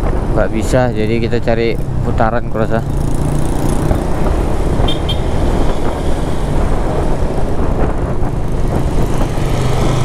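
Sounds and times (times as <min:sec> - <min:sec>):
motorcycle engine hum: 0:00.0 - 0:10.0
wind rush on microphone: 0:00.0 - 0:10.0.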